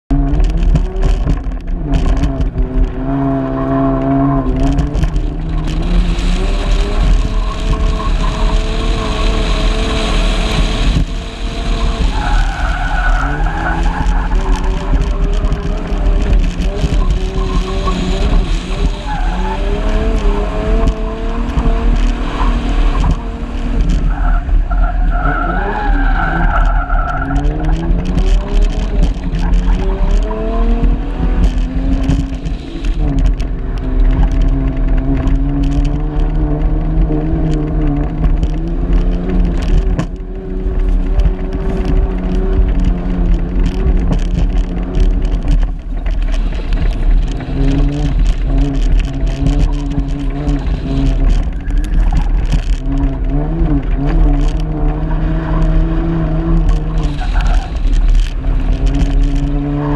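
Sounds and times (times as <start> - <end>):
car engine revving: 0.1 - 59.9
tyres skidding on dirt: 0.1 - 59.9.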